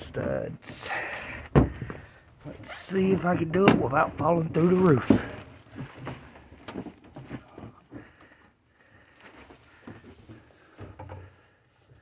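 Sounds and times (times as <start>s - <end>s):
footsteps on wooden joists: 1.0s - 12.0s.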